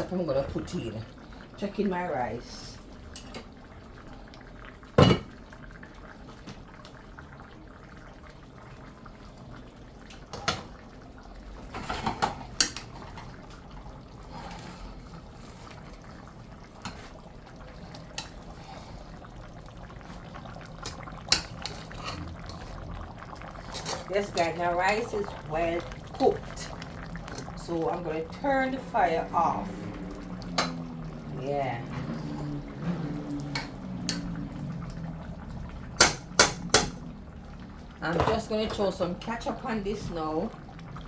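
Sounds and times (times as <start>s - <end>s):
low simmering noise: 0.0s - 41.0s.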